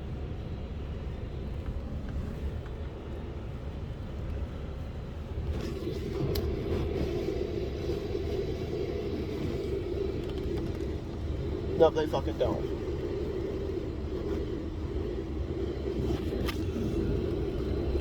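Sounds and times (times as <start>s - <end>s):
car driving slowly: 0.0s - 18.0s.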